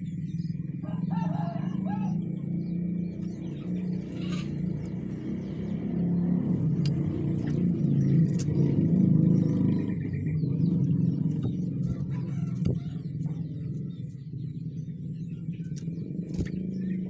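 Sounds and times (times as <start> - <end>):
low motor rumble: 0.0 - 17.0.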